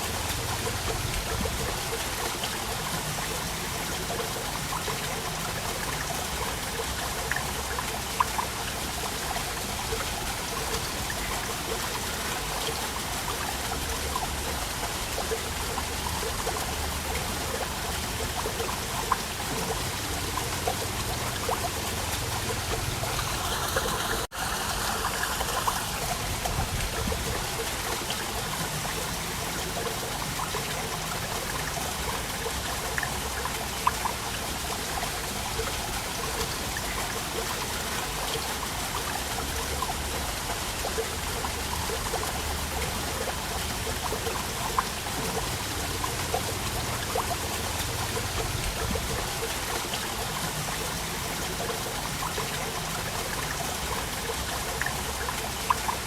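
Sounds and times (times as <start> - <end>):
waterfall splashing and trickling: 0.0 - 56.0.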